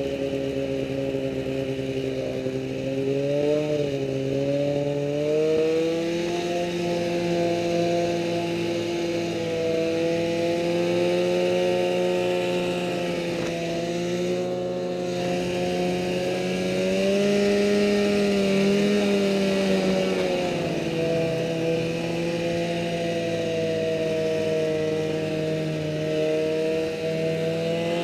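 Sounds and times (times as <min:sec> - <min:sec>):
snowmobile engine running: 0:00.0 - 0:28.0.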